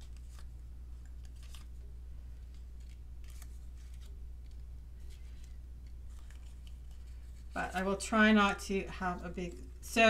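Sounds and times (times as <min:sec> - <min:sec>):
steady low hum: 0:00.0 - 0:10.0
thin paper crinkling: 0:00.0 - 0:10.0.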